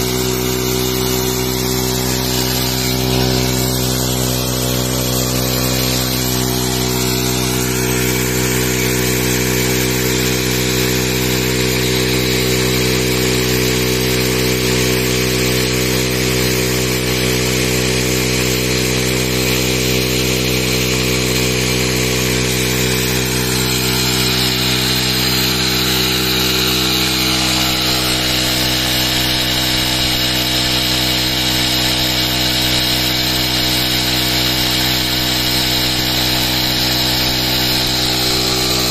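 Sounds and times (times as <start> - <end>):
motorcycle engine running steadily: 0.0 - 38.9
water gushing into a tank: 0.0 - 38.9.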